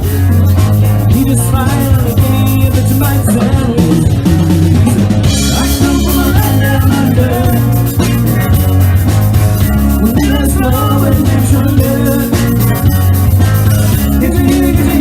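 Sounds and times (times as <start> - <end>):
busy drum beat: 0.0 - 15.0
electric guitar: 0.0 - 15.0
heavy bass notes: 0.0 - 15.0.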